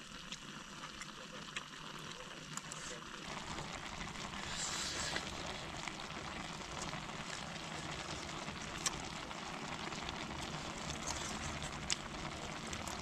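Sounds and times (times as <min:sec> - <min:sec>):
camp stove burning: 0:00.0 - 0:13.0
water simmering in a pot: 0:00.0 - 0:13.0.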